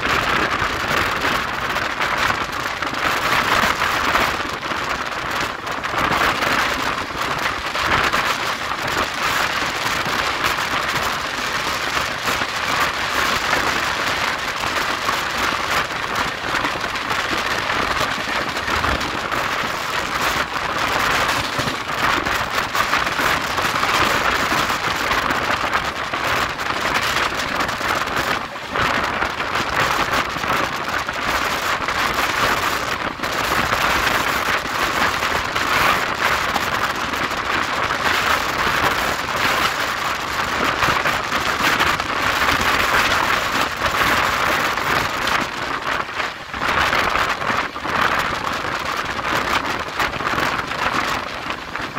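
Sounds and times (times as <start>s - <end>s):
rush of wind: 0.0s - 51.9s
train wheels rolling on rails: 0.0s - 51.9s.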